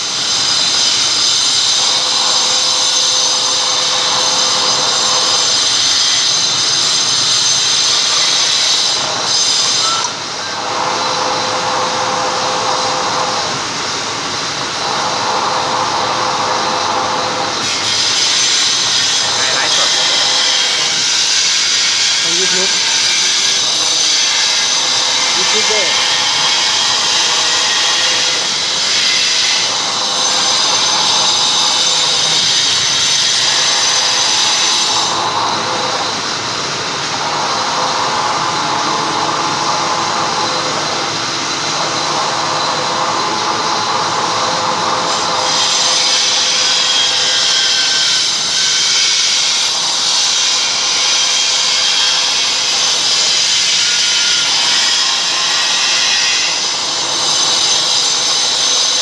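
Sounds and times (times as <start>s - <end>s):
milling machine cutting steel: 0.0s - 59.0s.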